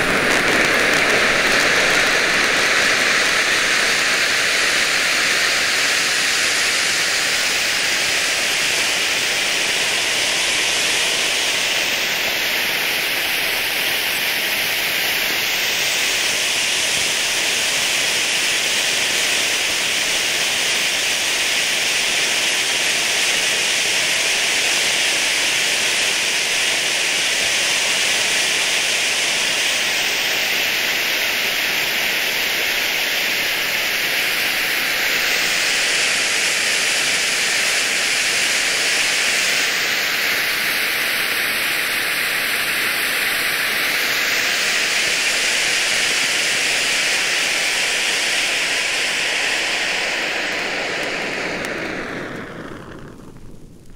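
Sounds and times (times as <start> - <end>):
firework fountain hissing: 0.0 - 53.9.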